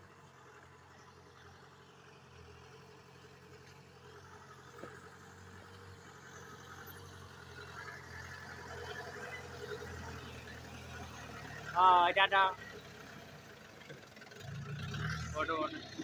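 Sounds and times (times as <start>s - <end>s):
jeep engine running: 0.0s - 16.0s.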